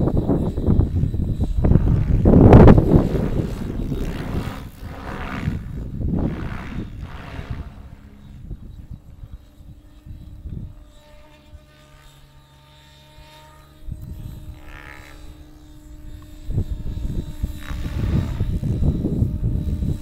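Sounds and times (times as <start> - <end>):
wind rumble on microphone: 0.0 - 12.2, 13.7 - 20.0
rc helicopter motor and rotor hum: 0.0 - 20.0.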